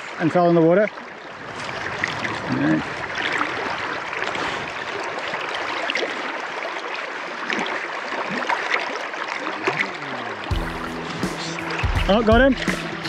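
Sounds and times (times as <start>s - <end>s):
river rushing with gurgles: 0.0s - 13.0s.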